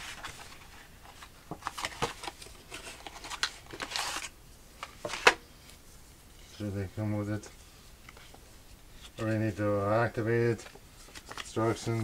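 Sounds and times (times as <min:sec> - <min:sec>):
paper cards rustling and scraping: 0:00.0 - 0:05.8, 0:06.4 - 0:12.0.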